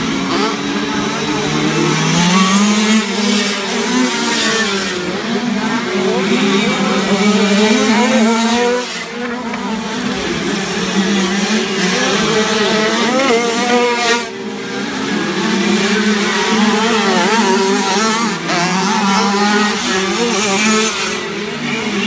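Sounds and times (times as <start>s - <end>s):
motocross bikes revving: 0.0s - 22.0s.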